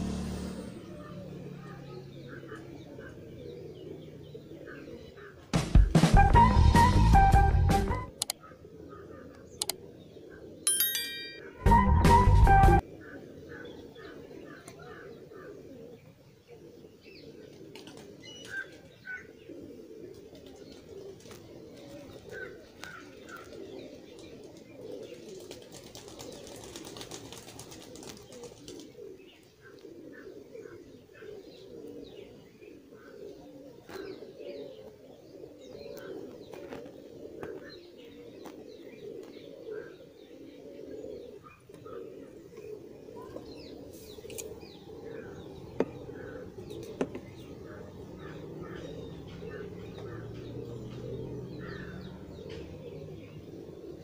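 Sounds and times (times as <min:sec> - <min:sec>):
birds cooing: 0:00.0 - 0:05.6, 0:06.4 - 0:54.0.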